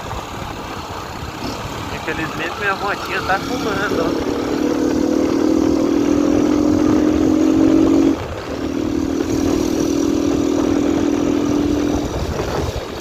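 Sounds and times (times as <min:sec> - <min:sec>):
motorcycle engine running: 0:00.0 - 0:13.0
wind rumble: 0:00.0 - 0:13.0.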